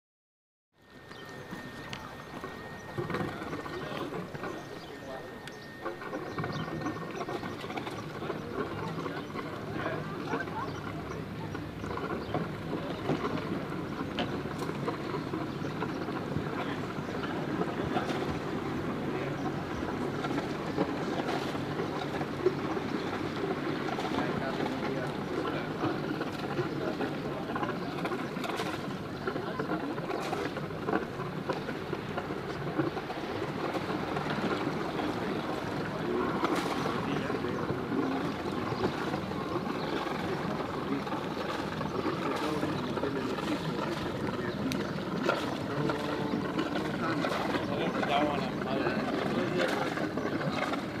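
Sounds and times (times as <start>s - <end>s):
boat engines droning: 0.8s - 51.0s
continuous wash of noise: 0.8s - 51.0s.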